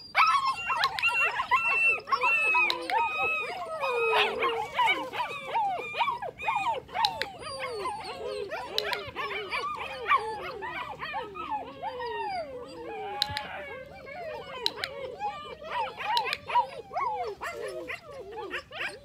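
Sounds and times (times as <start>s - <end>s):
puppy whining and yelping: 0.0s - 19.0s.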